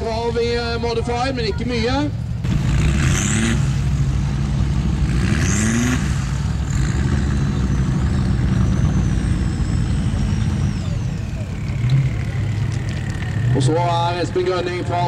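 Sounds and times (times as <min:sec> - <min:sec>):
car engine revving: 0:02.2 - 0:15.0.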